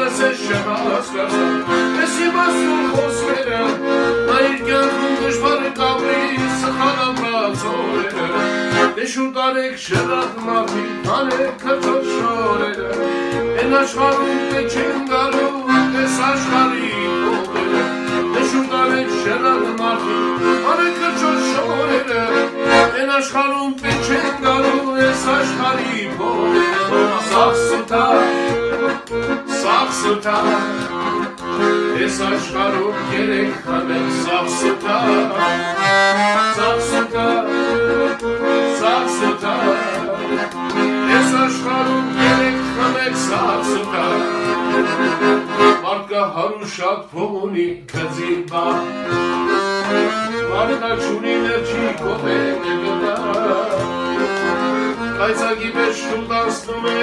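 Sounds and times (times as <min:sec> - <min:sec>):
accordion tune: 0:00.0 - 0:57.0.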